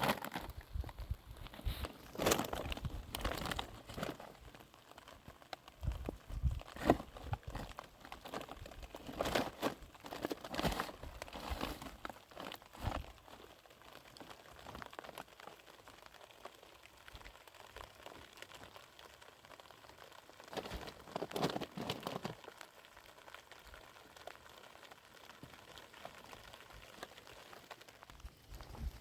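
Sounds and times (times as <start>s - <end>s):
plastic crinkling: 0.0s - 29.0s.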